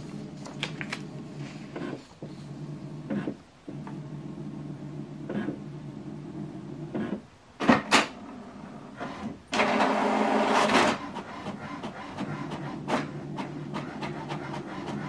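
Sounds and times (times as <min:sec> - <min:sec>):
printer mechanism humming: 0:00.0 - 0:15.0
rush of printer mechanical noise: 0:00.0 - 0:15.0.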